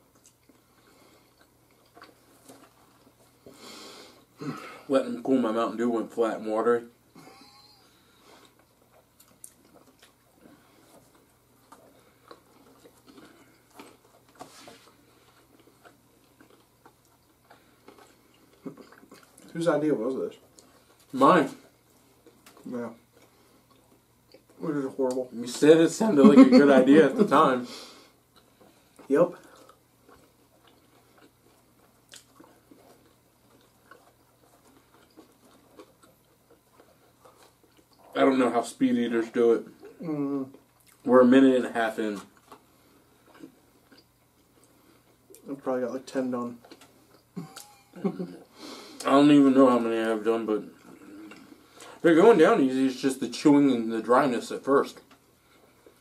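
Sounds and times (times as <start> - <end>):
people chewing crunchy food: 0.0 - 4.9, 6.3 - 25.8, 26.6 - 56.0
low steady hum: 0.0 - 56.0.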